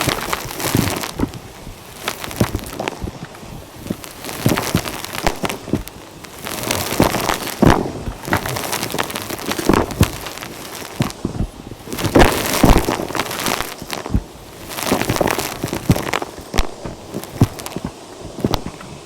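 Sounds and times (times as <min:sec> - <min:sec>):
dry dirt crunching and crackling: 0:00.0 - 0:19.0.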